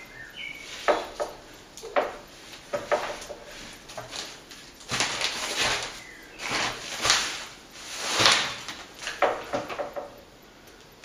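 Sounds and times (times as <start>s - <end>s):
ceiling panel lift scraping: 0.0s - 10.1s.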